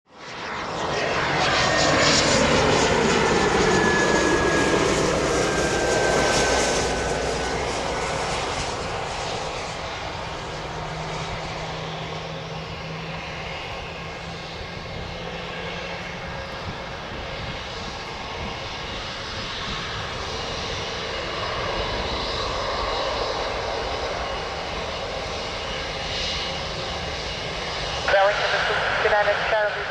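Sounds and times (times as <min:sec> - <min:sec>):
jet passing with falling whine: 0:00.2 - 0:29.9
low jet rumble: 0:00.2 - 0:29.9.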